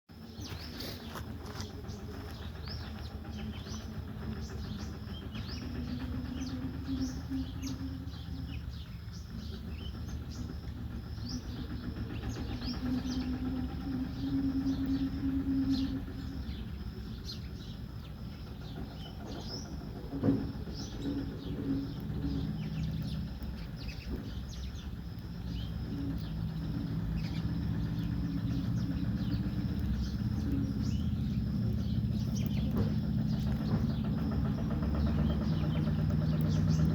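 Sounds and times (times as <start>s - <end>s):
low engine hum: 0.1s - 36.9s
sparrows chirping: 0.1s - 36.9s.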